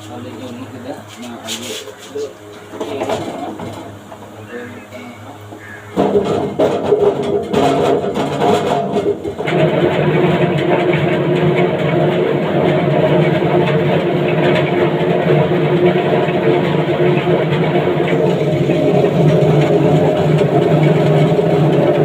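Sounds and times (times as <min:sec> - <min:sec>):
potato peeling machine running: 0:00.0 - 0:22.0.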